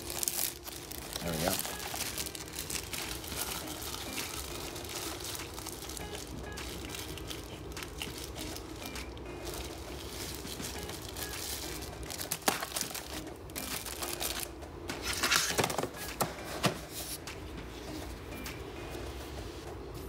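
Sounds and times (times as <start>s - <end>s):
plastic bags crinkling: 0.0s - 16.2s.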